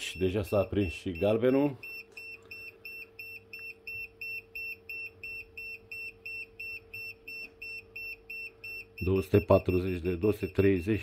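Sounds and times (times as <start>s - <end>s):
faint steady hum: 0.0s - 11.0s
voltage tester beeping: 0.0s - 11.0s.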